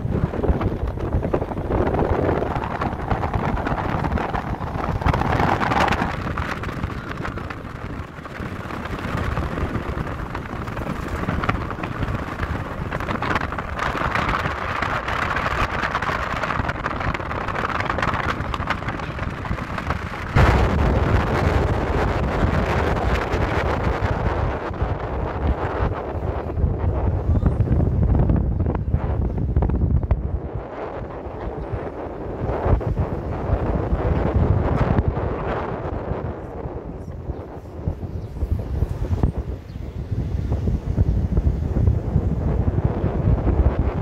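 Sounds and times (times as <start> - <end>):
car road noise: 0.0 - 44.0
wind rushing over microphone: 0.0 - 44.0.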